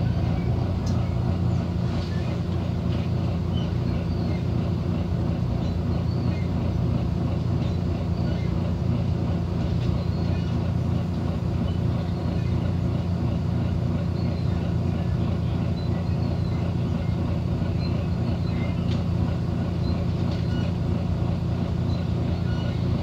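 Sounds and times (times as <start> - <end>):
bus engine low drone: 0.0 - 23.0.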